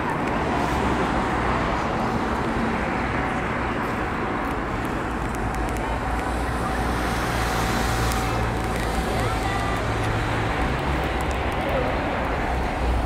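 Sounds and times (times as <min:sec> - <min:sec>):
distant traffic: 0:00.0 - 0:13.0
outdoor rumble and hiss: 0:00.0 - 0:13.0.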